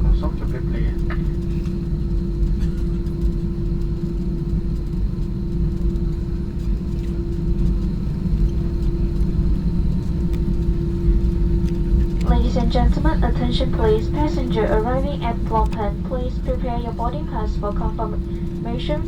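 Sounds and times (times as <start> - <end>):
airliner cabin hum: 0.0 - 19.0.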